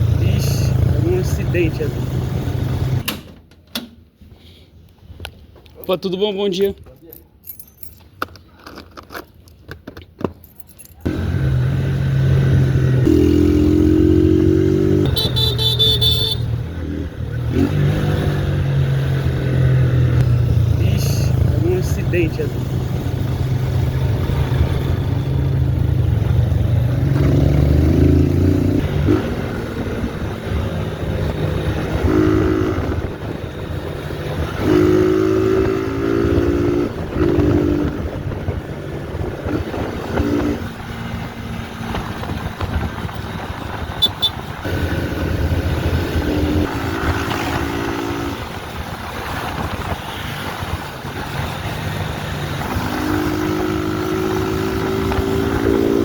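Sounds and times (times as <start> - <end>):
motorcycle engine revving: 11.0 - 56.0.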